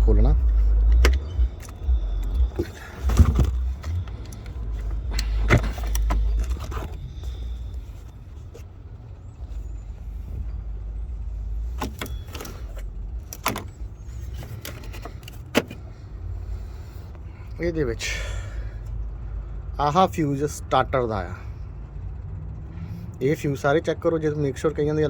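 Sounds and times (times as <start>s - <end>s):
steady low rumble: 0.0s - 23.3s.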